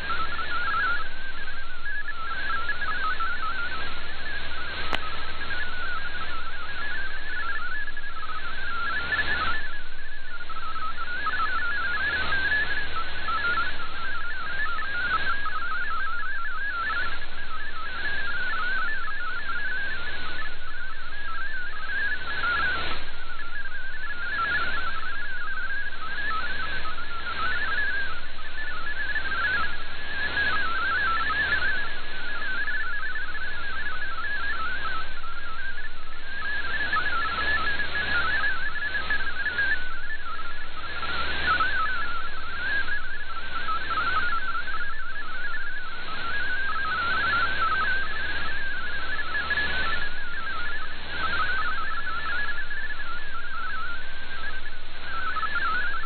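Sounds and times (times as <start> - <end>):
radio static hiss: 0.0 - 56.0
warbling digital radio tones: 0.0 - 56.0.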